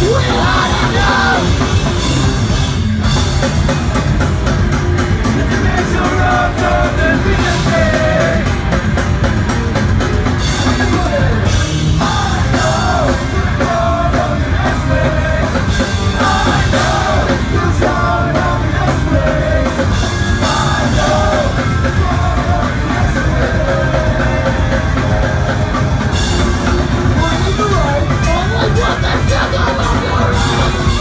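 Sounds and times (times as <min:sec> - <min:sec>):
punk rock band playing live: 0:00.0 - 0:31.0.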